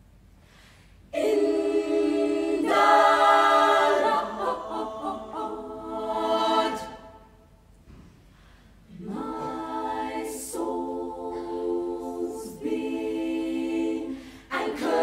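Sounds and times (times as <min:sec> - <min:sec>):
girls' choir singing a cappella: 0:01.1 - 0:07.4, 0:08.9 - 0:15.0.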